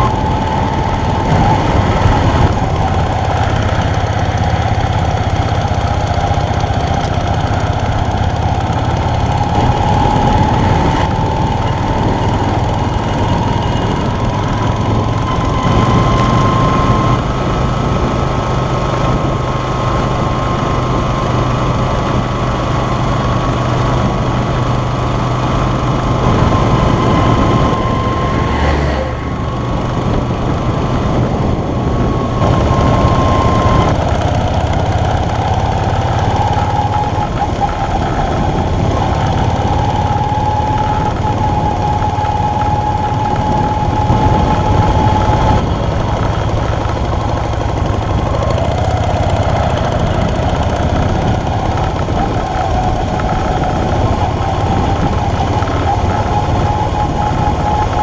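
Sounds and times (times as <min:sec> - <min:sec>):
motorcycle engine running: 0:00.0 - 0:58.0
thin whine: 0:00.0 - 0:58.0.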